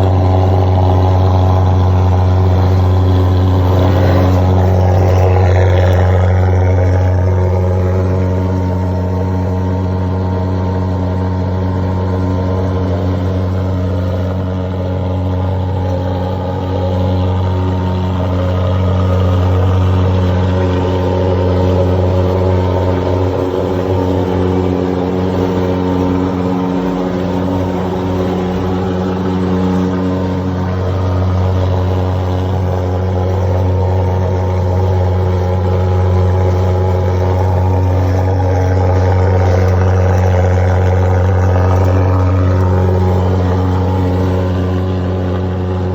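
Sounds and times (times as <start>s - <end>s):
rc car engine running: 0.0s - 45.9s.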